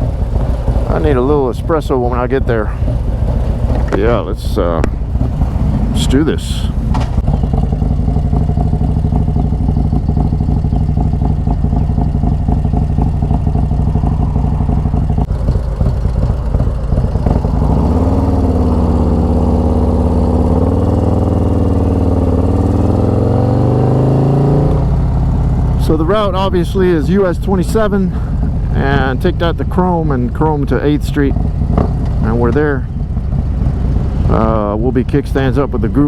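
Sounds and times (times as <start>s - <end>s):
motorcycle engine rumble: 0.0s - 36.0s.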